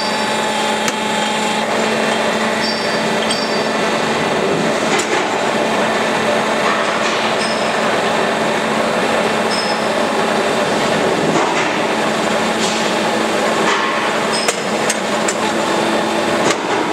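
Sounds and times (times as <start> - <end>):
loud machinery noise: 0.0 - 16.9.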